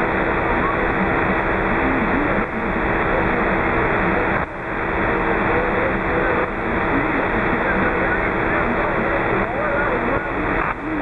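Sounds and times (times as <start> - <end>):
radio static: 0.0 - 11.0
weak voice over radio: 0.2 - 11.0.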